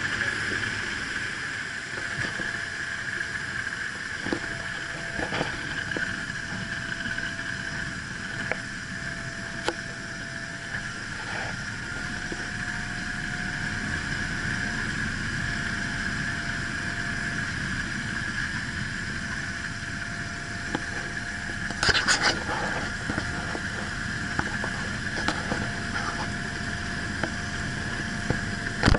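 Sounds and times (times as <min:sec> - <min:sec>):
light aircraft engine droning: 0:00.0 - 0:28.9.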